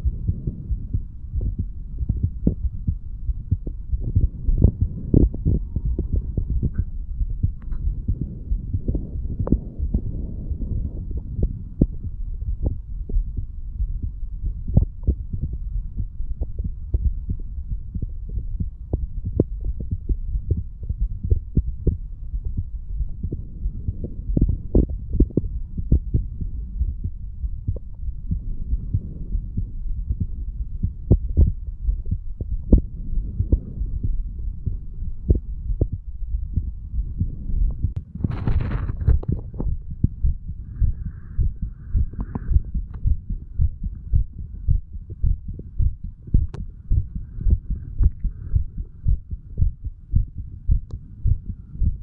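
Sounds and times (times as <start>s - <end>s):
heartbeat thumps: 0.0s - 52.0s
steady low rumble: 0.0s - 52.0s.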